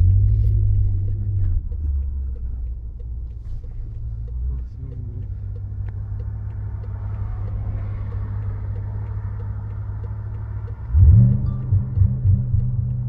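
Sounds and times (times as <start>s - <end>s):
car engine idling deep drone: 0.0s - 13.0s.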